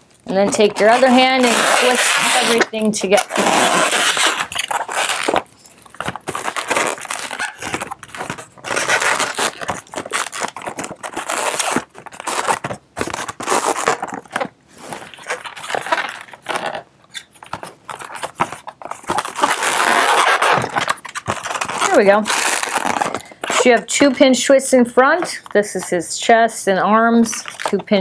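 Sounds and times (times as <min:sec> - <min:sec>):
balloons squeaking and rubbing: 0:00.0 - 0:26.4, 0:27.0 - 0:28.0.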